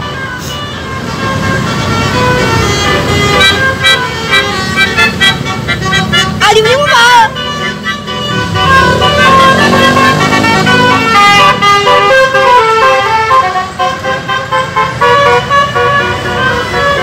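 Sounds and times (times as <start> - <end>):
musical vehicle horn melody: 0.0 - 17.0.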